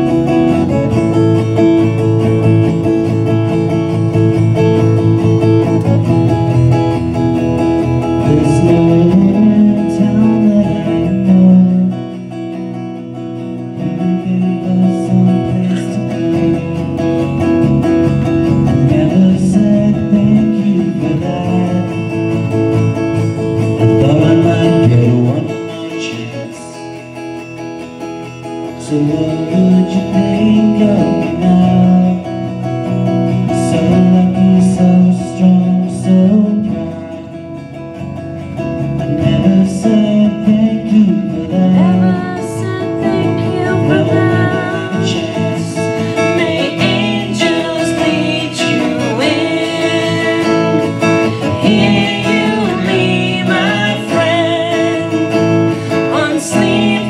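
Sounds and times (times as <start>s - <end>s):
acoustic guitars playing: 0.0s - 57.0s.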